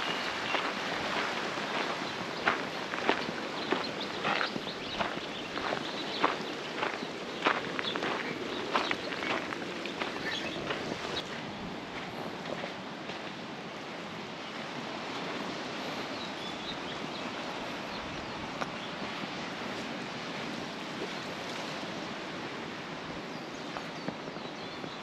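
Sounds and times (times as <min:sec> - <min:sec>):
ocean surf: 0:00.0 - 0:25.0.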